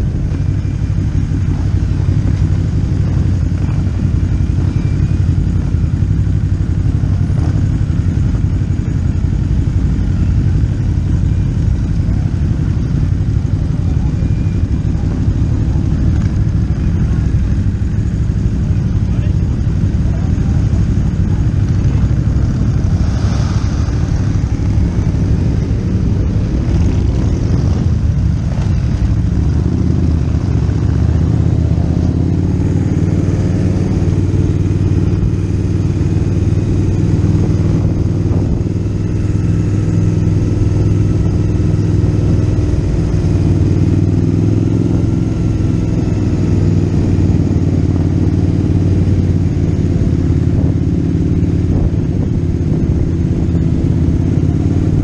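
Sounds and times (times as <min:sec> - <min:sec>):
motorcycle engine running: 0:00.0 - 0:55.0
road noise: 0:00.0 - 0:55.0
wind: 0:00.0 - 0:55.0.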